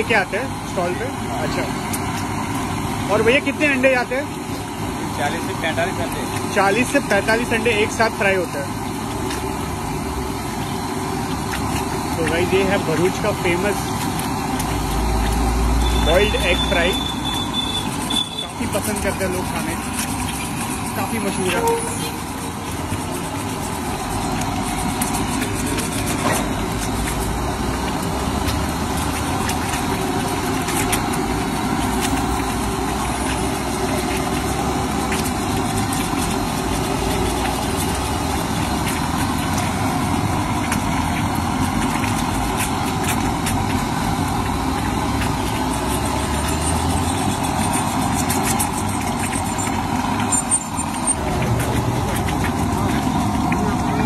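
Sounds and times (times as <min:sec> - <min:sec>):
oil sizzling and crackling: 0:00.0 - 0:54.0.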